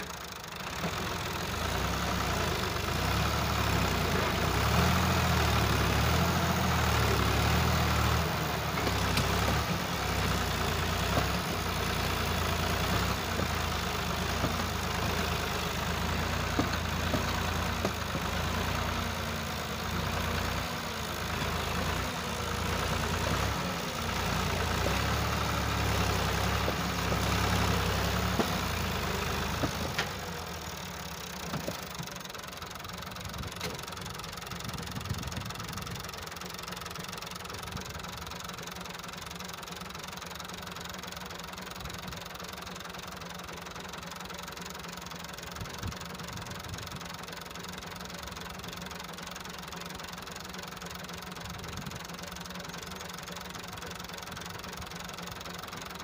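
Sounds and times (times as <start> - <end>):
tractor diesel engine drone: 0.0 - 56.0.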